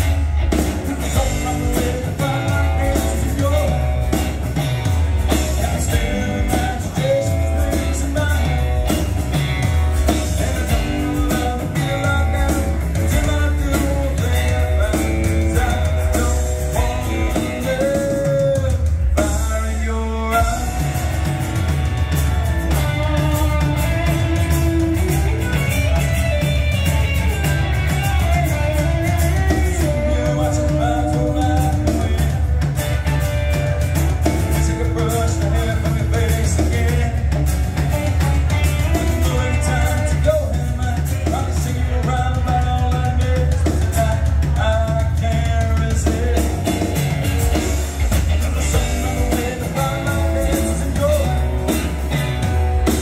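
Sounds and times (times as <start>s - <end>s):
acoustic and electric guitars: 0.0s - 53.0s
drum kit: 0.0s - 53.0s
electric bass: 0.0s - 53.0s
person singing: 0.0s - 53.0s.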